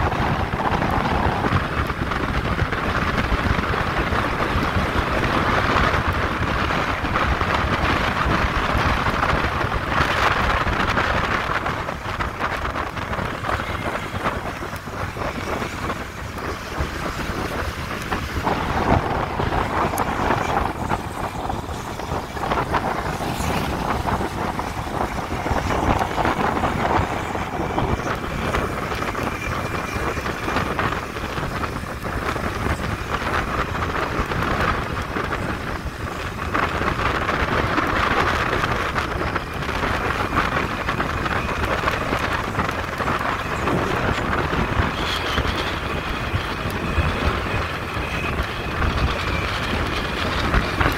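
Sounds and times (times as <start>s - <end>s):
vehicle engine and tyre noise: 0.0s - 50.9s
wind rush on microphone: 0.0s - 50.9s.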